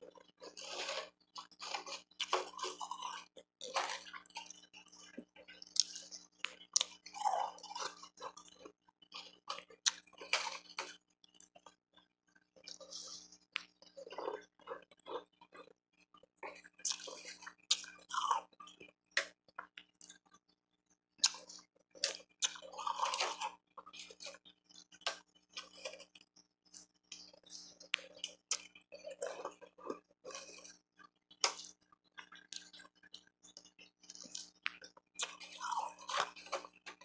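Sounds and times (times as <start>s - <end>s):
chewing crunchy ice: 0.0s - 19.0s, 21.2s - 37.0s.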